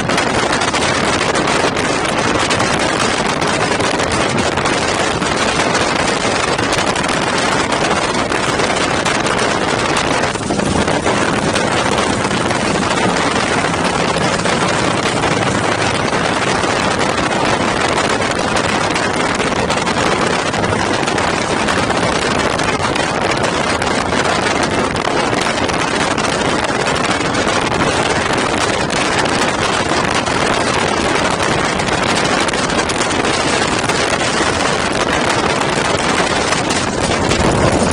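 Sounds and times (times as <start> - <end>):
motorcycle engine running: 0.0 - 37.9
wind rush on microphone: 0.0 - 37.9.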